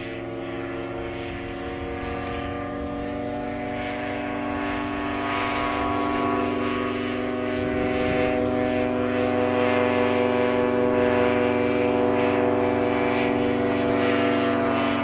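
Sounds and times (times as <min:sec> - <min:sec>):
ultralight aircraft engine drone: 0:00.0 - 0:15.0.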